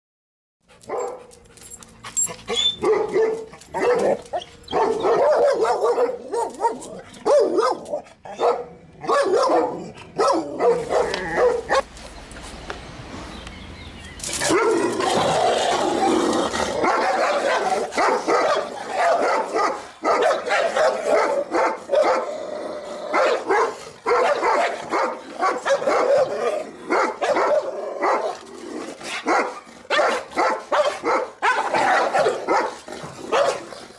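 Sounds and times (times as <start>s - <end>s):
dogs barking aggressively: 0.6s - 11.9s, 14.2s - 33.9s.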